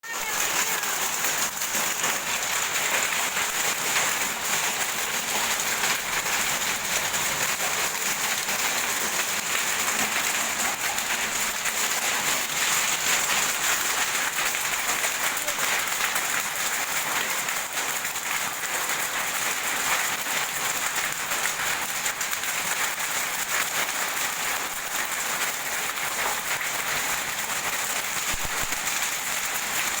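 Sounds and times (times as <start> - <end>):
hail and rain falling: 0.0 - 30.0.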